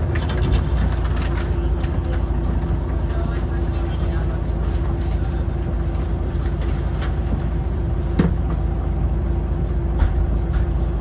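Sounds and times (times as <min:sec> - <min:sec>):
bus road rumble: 0:00.0 - 0:11.0
constant hum: 0:00.0 - 0:11.0.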